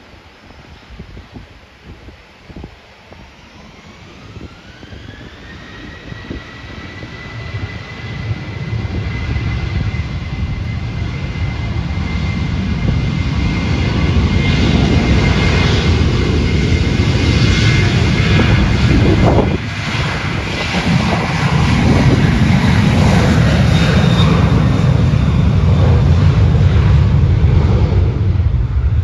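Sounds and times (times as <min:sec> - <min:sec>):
jet engines spooling up: 0:00.1 - 0:29.0.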